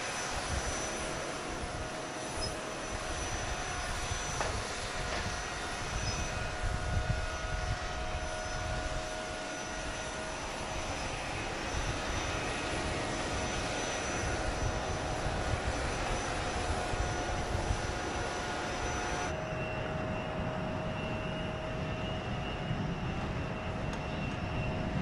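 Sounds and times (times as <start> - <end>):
aircraft turbine running: 0.0 - 25.0.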